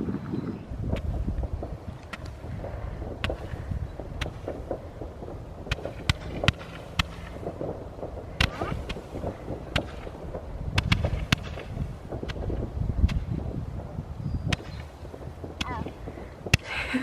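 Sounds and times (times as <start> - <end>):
fireworks cracking and popping: 0.0 - 17.0
low rumble: 0.0 - 17.0.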